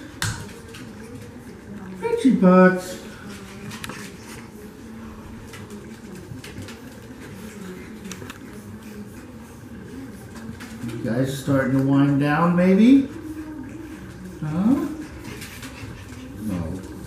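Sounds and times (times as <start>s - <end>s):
puppies licking mouth noises: 0.0s - 17.0s.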